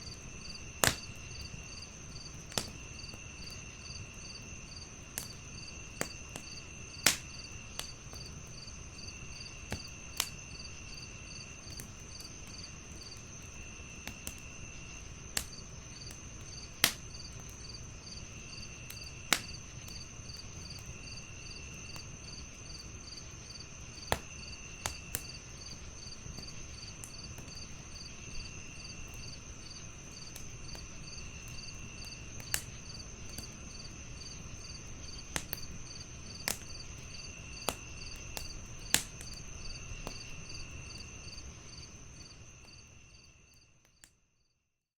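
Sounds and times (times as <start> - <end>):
wood fire crackling and popping: 0.0 - 43.0
crickets chirping: 0.0 - 44.5.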